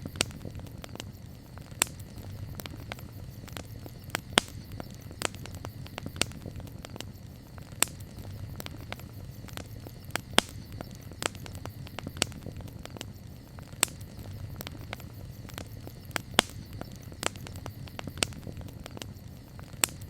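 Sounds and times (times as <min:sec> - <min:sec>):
low fire rumble: 0:00.0 - 0:20.0
wood crackling and popping: 0:00.0 - 0:20.0.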